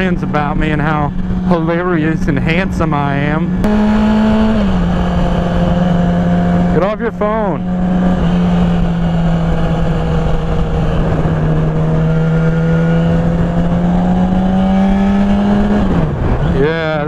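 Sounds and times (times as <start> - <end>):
motorcycle engine cruising: 0.0 - 17.0
road and wind noise: 0.0 - 17.0.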